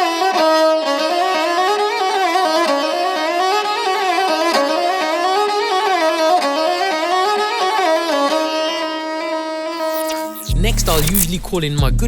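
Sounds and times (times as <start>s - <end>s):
bowed string melody: 0.0s - 11.8s.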